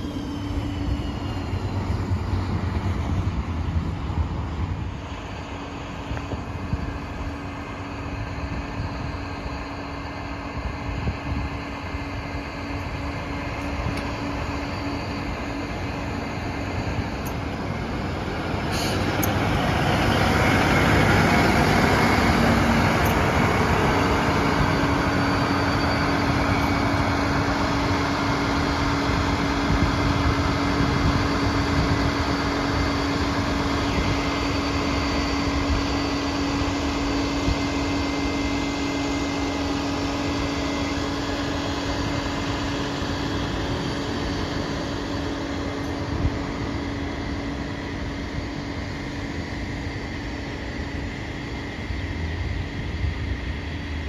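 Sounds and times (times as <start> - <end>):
coach diesel engine pulling away: 0.0 - 48.0
steady hum: 0.0 - 54.0.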